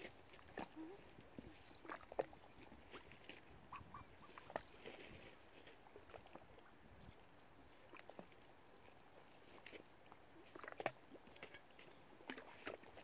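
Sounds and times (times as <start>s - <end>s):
soft clicks of waterbirds feeding: 0.0s - 13.0s.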